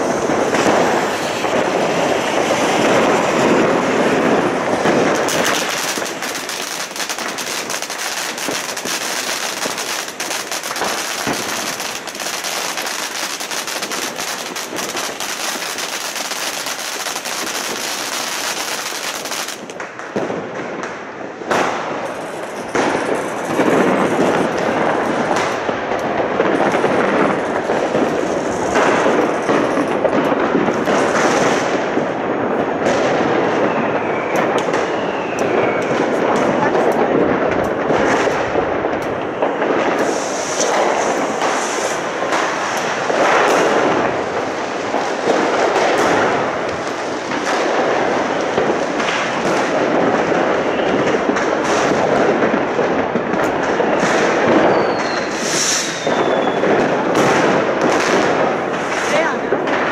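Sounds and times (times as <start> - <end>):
firework fountain hissing: 0.0 - 59.9
fireworks crackling and popping: 0.0 - 59.9.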